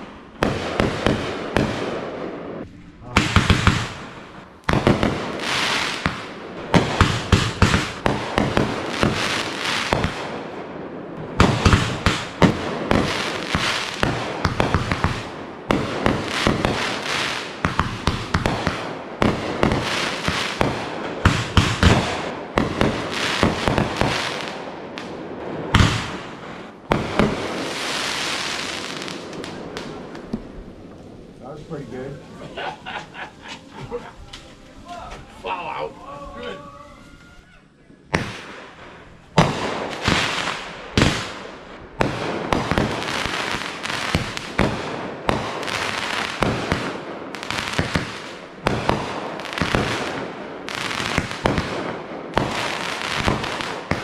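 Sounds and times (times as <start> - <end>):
fireworks launching and bursting: 0.0 - 35.9, 38.0 - 54.0
fireworks crackling: 0.0 - 54.0.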